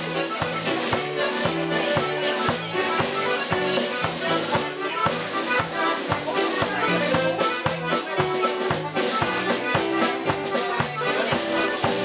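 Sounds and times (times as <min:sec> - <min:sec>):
accordion dance tune: 0:00.0 - 0:12.0
drum kit beat: 0:00.0 - 0:12.0.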